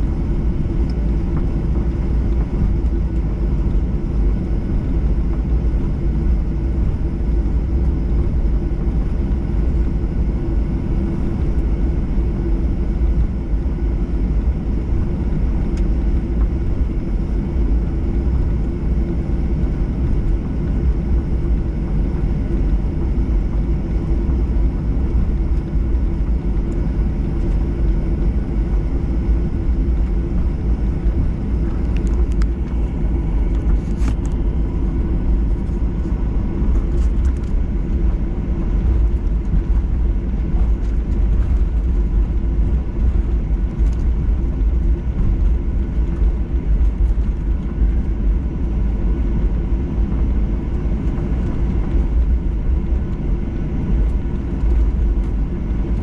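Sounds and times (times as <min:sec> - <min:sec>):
faint steady whine: 0:00.0 - 0:56.0
jet engines rumbling in cabin: 0:00.0 - 0:56.0.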